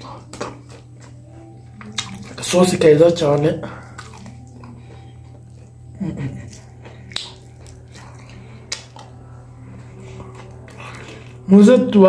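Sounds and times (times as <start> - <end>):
person biting and chewing: 0.0 - 1.2, 1.8 - 2.6, 3.2 - 11.5
steady low hum: 0.0 - 12.0.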